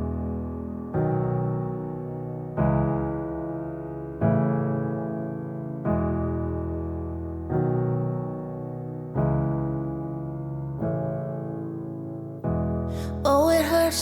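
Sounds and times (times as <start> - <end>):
electric piano chords: 0.0 - 14.0.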